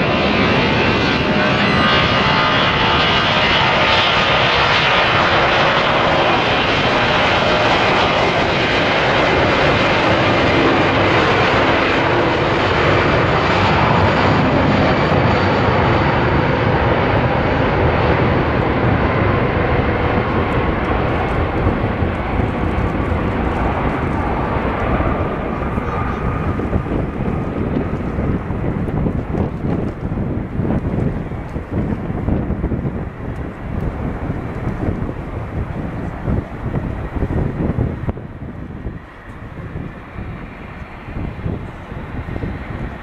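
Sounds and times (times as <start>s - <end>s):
jet engines at take-off thrust: 0.0s - 43.0s.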